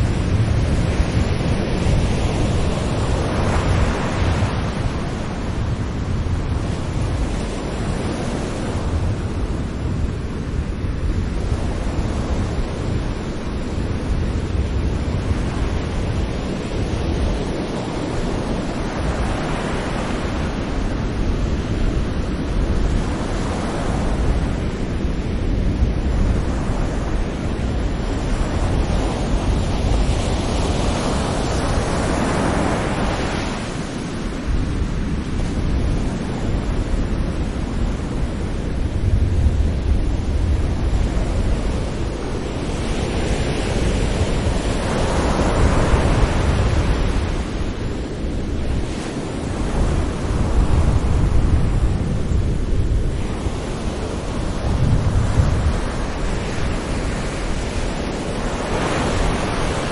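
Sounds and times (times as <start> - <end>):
sea waves breaking on a beach: 0.0 - 59.9.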